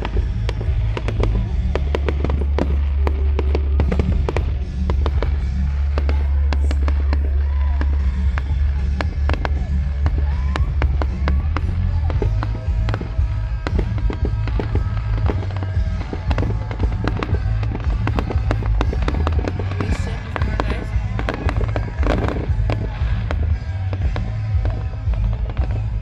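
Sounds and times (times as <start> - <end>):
deep rumble: 0.0 - 26.0
fireworks bangs and crackles: 0.0 - 26.0
music playing: 0.0 - 26.0.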